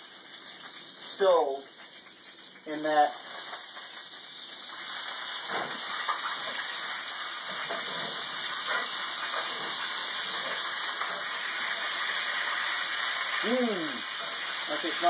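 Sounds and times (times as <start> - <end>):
beef sizzling in skillet: 0.0 - 15.0.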